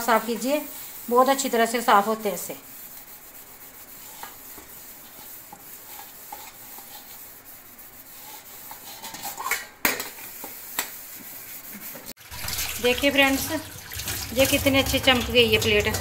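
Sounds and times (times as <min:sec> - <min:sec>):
sponge scrubbing metal plate: 0:00.0 - 0:09.6, 0:10.3 - 0:12.4, 0:13.0 - 0:16.0.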